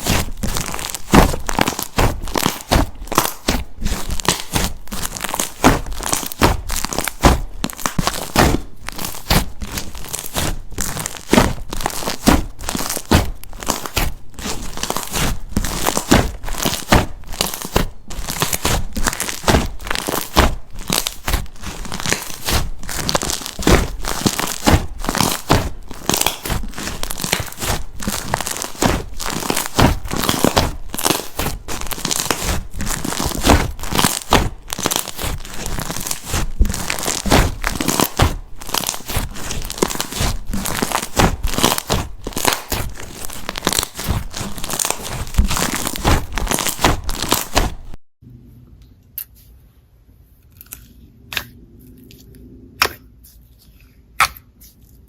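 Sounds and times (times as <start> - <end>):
slime crackling and popping: 0.0 - 48.0.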